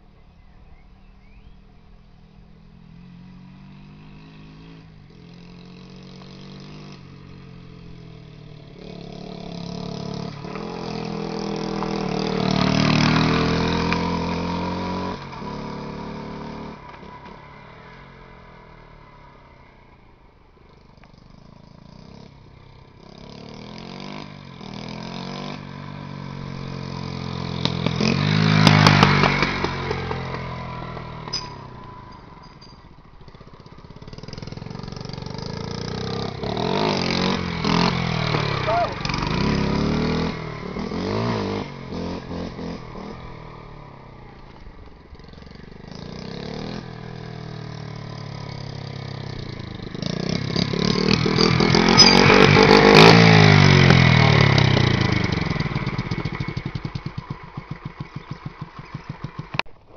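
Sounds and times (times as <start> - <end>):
motorcycle engines revving: 1.4 - 59.9.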